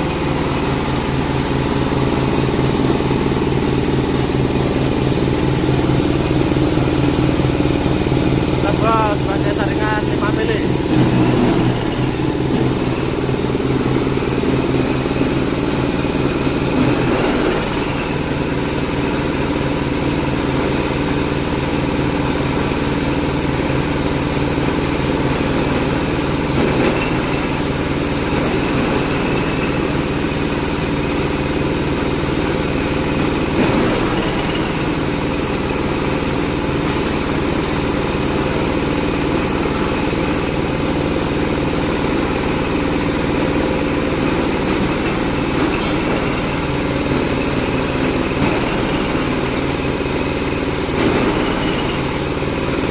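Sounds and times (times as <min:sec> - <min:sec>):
grinding machine drone: 0:00.0 - 0:52.9.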